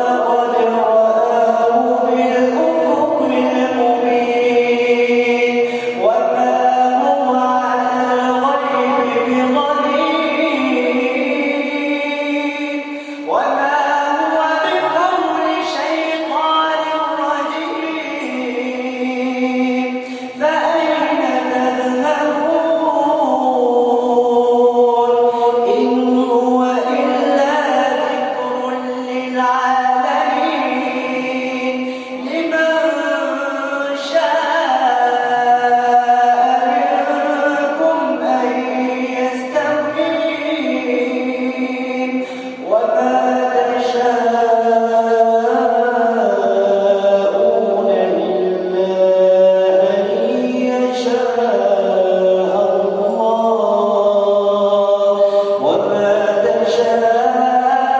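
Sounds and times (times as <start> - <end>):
man chanting melodic recitation: 0.0 - 57.9.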